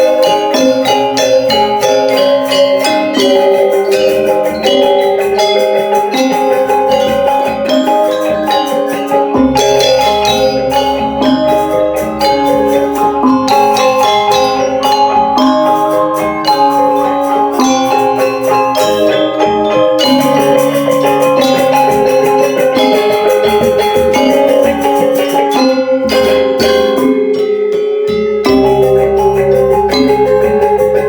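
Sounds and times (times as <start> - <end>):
gamelan playing: 0.0 - 31.0.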